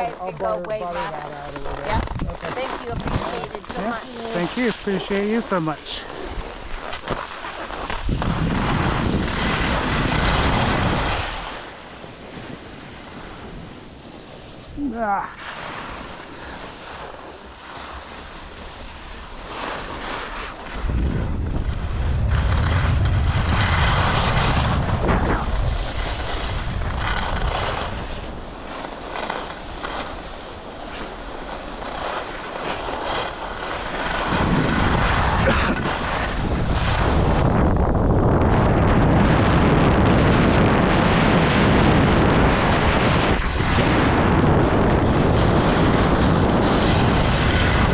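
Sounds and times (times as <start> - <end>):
skis scraping on hard snow: 0.0 - 14.7, 15.3 - 47.9
wind buffeting microphone: 0.0 - 14.9, 15.7 - 47.9.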